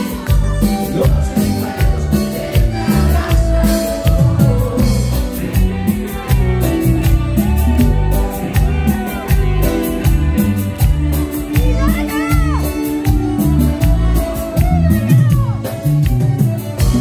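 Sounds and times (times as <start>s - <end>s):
bass and drums beat: 0.0s - 17.0s
button accordion: 0.0s - 17.0s
congas: 0.0s - 17.0s
electric guitars: 0.0s - 17.0s
live band playing latin music: 0.0s - 17.0s.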